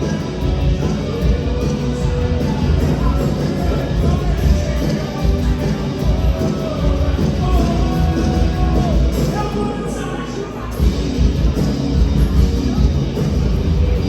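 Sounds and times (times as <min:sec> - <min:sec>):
church band playing worship song: 0:00.0 - 0:14.0.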